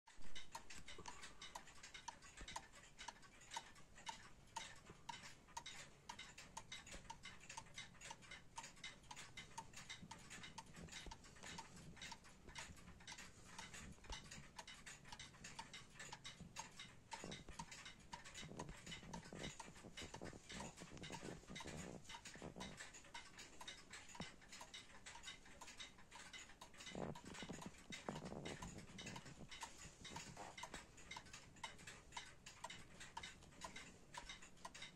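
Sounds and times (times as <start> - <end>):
wall clock ticking: 0.1 - 34.9.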